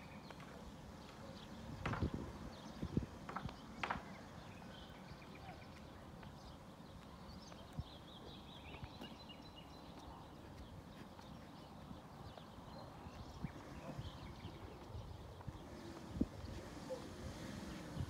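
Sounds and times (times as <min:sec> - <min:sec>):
small birds chirping: 0:00.0 - 0:18.0
footsteps on paved road: 0:00.1 - 0:17.1.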